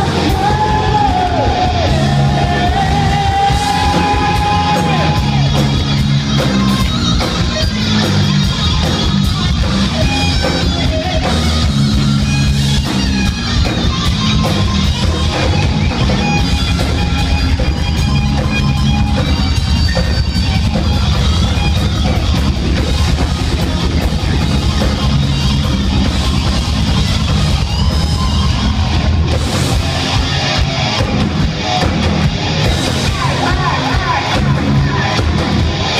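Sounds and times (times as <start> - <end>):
live hard rock band: 0.0 - 35.9.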